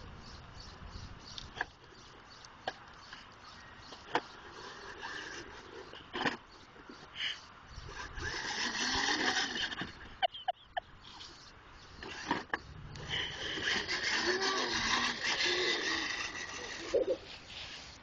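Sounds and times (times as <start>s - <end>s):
wheels rolling on pavement: 0.0s - 10.2s, 11.0s - 18.0s
toy truck electric motor whirring: 1.3s - 10.3s, 11.0s - 18.0s.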